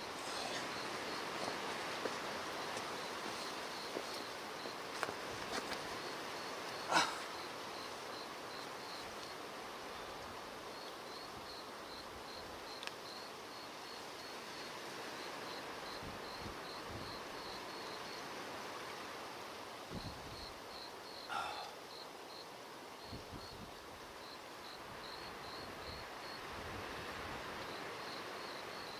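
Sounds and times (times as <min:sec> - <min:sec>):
background hiss: 0:00.0 - 0:28.9
insect chirping: 0:00.0 - 0:28.9.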